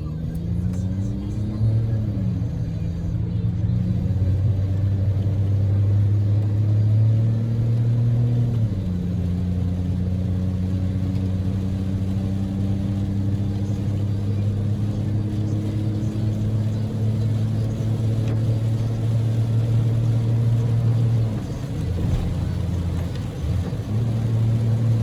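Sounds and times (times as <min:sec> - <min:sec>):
car engine droning from inside: 0:00.0 - 0:25.0.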